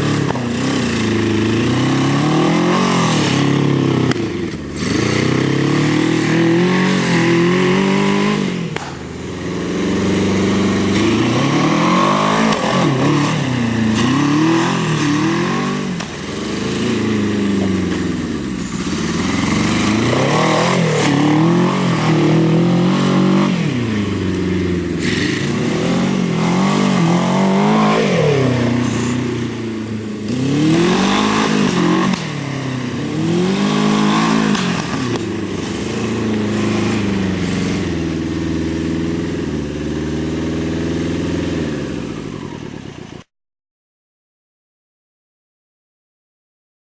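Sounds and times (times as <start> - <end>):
motorcycle engine revving: 0.0 - 43.3.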